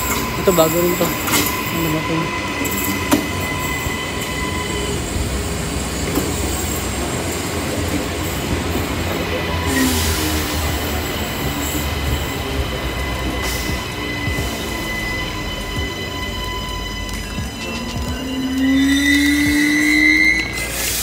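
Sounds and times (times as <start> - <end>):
train rumble and whine: 0.0 - 21.0.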